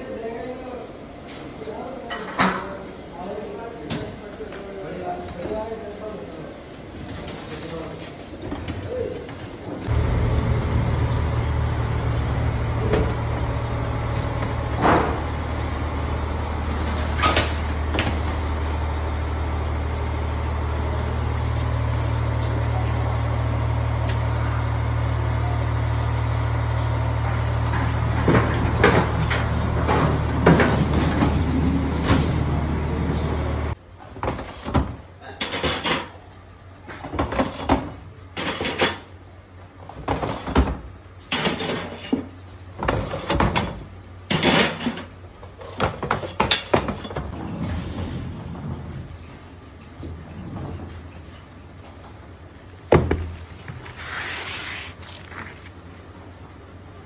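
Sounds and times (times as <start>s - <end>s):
oven running with low hum: 0.0s - 57.0s.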